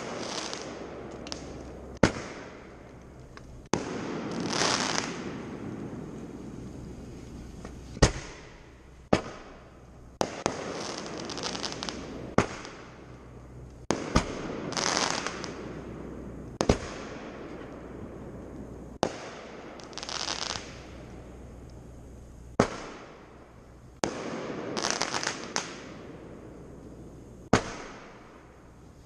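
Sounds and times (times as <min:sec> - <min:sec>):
fireworks booming: 0:00.0 - 0:29.0
fireworks crackling: 0:00.0 - 0:29.0.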